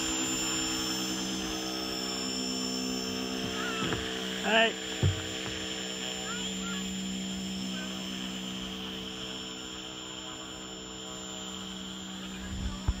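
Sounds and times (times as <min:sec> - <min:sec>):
thruster motors humming: 0:00.0 - 0:13.0.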